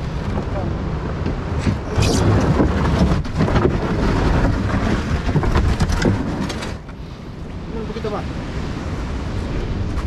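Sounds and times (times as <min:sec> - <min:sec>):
breaking surf: 0:00.0 - 0:10.0
wind buffeting microphone: 0:00.0 - 0:10.0.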